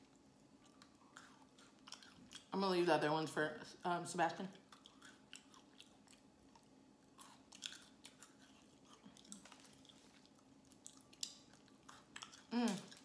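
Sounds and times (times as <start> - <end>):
low steady hum: 0.0 - 13.0
crunchy biscuit chewing: 0.1 - 2.5, 4.6 - 13.0.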